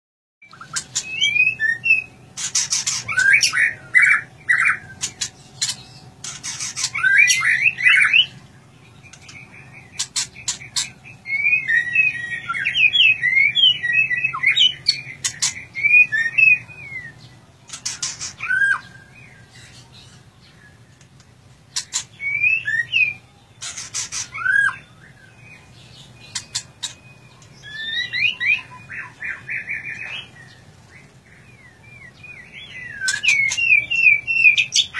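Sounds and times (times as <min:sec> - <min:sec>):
caged songbird singing: 0:00.4 - 0:34.9.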